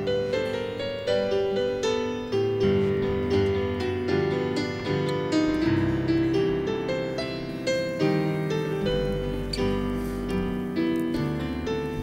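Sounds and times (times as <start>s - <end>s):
stage piano playing: 0.0s - 12.0s.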